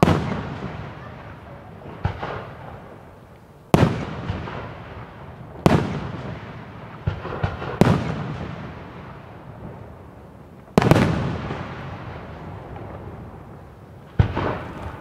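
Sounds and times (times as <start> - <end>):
small firework cracks: 0.0 - 15.0.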